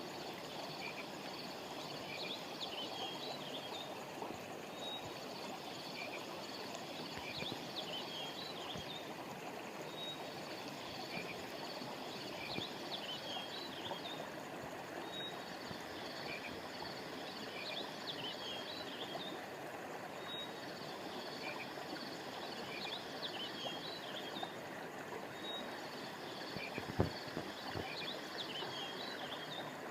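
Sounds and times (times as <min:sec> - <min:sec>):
river water flowing: 0:00.0 - 0:29.9.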